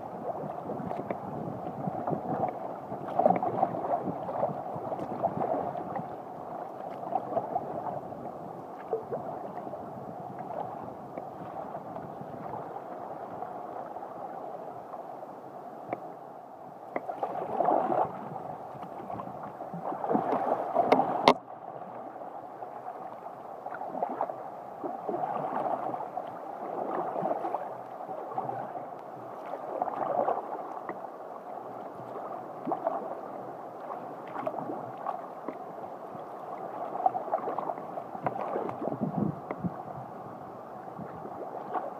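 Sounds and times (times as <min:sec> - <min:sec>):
water gurgling along kayak hull: 0:00.0 - 0:41.9.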